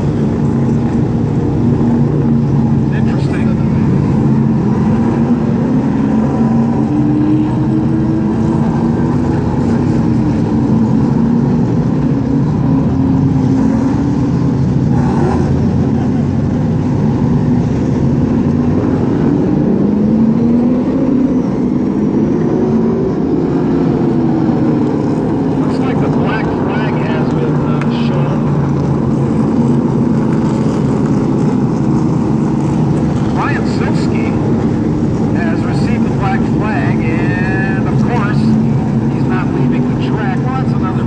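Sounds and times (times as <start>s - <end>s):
stock car engines racing: 0.0s - 41.0s.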